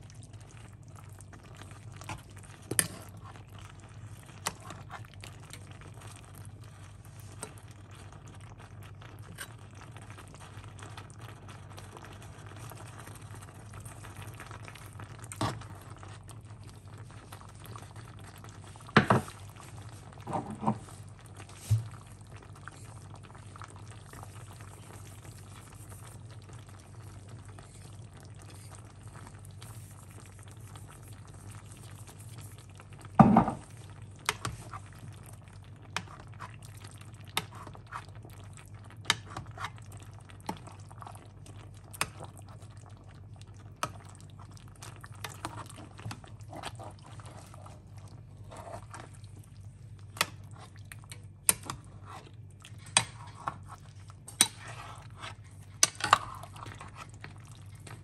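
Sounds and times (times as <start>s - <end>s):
stew bubbling in a pot: 0.0s - 58.0s.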